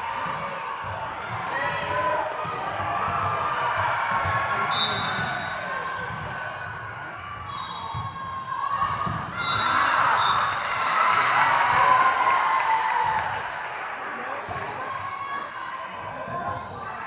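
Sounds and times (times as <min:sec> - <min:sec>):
hubbub of voices: 0:00.0 - 0:17.0.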